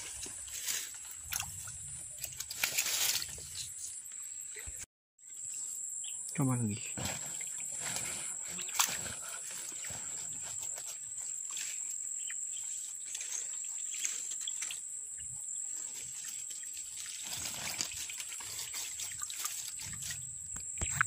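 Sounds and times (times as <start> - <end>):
rustles: 0.0 - 4.3, 6.8 - 14.8, 15.7 - 21.0.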